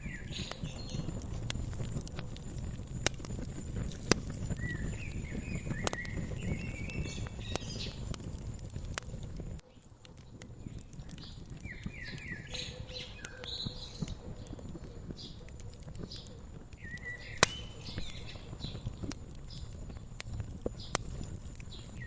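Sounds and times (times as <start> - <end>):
small birds chirping: 0.0 - 22.0
wood fire crackling and popping: 0.0 - 22.0.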